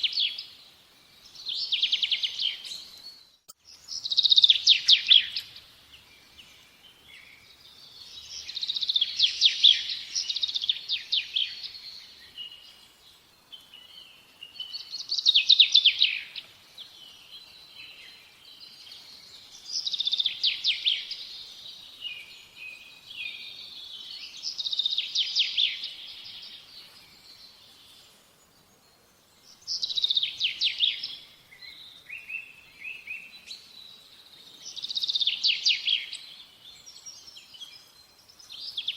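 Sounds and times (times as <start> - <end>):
faint bird chirps: 0.0 - 38.9.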